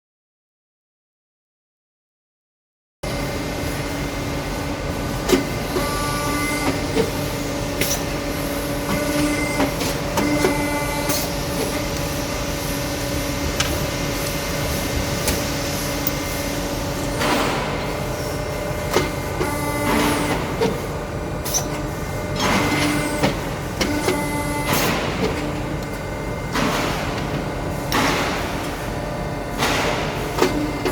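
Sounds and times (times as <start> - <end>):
machine pitched hum: 3.0 - 30.9.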